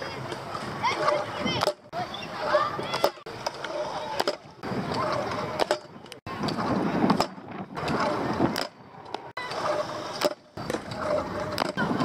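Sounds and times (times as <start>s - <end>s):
scooter deck clacking: 0.0s - 12.0s
scooter wheels rolling on concrete: 0.0s - 12.0s.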